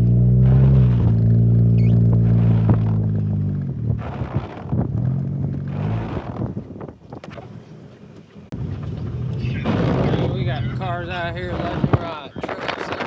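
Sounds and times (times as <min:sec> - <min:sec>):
car engine droning: 0:00.0 - 0:12.7
rushing road noise: 0:00.0 - 0:13.0.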